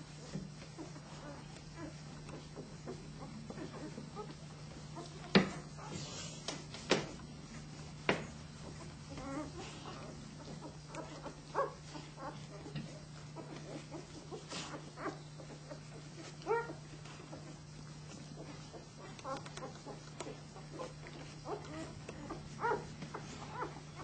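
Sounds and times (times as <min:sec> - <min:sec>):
puppies squeaking and grunting: 0:00.0 - 0:24.0
steady low hum: 0:00.0 - 0:24.0.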